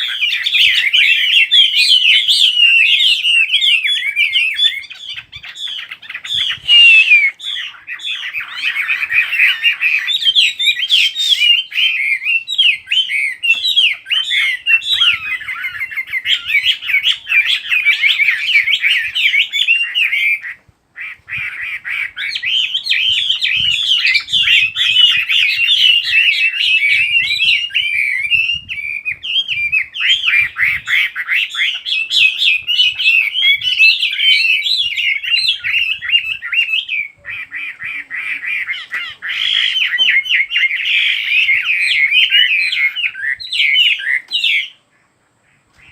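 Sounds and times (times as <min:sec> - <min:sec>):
bird singing chirps and whistles: 0:00.0 - 0:20.6, 0:21.3 - 0:44.8.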